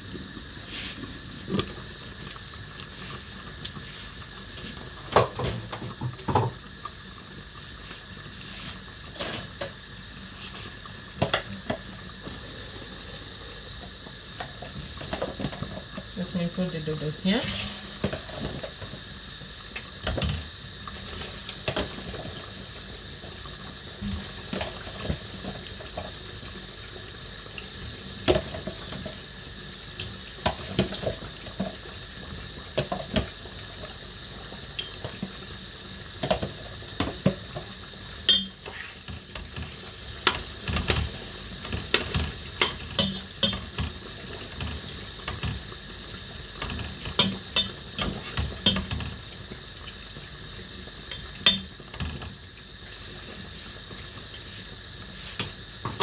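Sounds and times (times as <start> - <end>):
water running in sink: 0.0 - 56.0.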